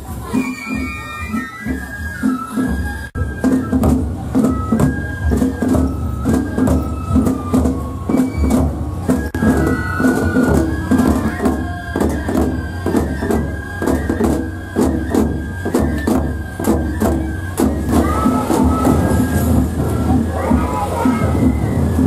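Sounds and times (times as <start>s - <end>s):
flute melody: 0.0s - 22.0s
taiko drums beaten with sticks: 0.0s - 22.0s.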